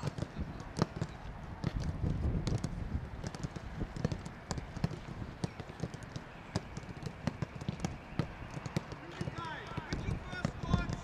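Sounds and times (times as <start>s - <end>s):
footballs being kicked: 0.0s - 11.0s.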